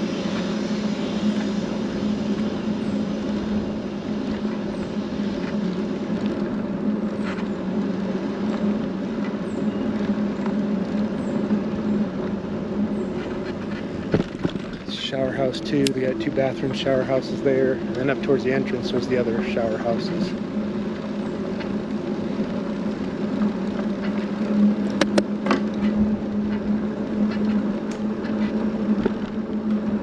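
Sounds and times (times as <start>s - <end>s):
vehicle engine and road hum: 0.0s - 30.0s.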